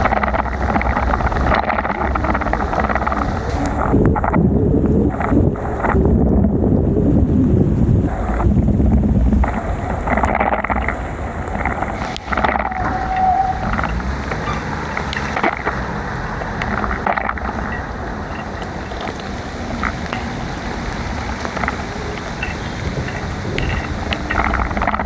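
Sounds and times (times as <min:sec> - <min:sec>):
sharp ticks: 0:00.0 - 0:04.4, 0:09.3 - 0:25.0
heavy rain: 0:00.0 - 0:25.0
traffic on wet road: 0:00.0 - 0:25.0.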